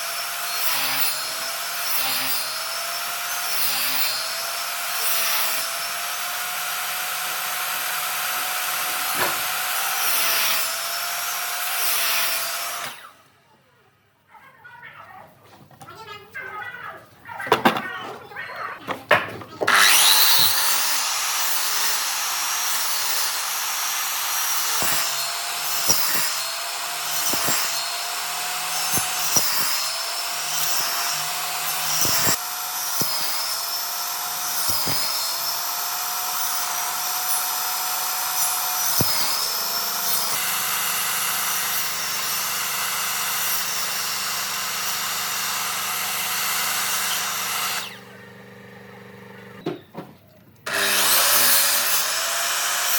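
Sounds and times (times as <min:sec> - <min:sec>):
electric power tool cutting wood: 0:00.0 - 0:13.2, 0:19.6 - 0:49.6, 0:50.7 - 0:52.9.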